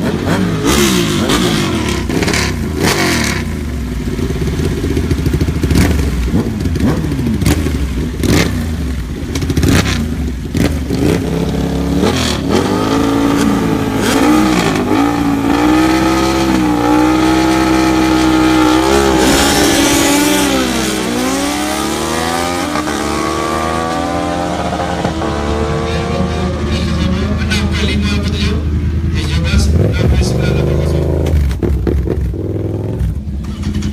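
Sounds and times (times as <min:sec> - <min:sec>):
superbike engines revving: 0:00.0 - 0:33.9.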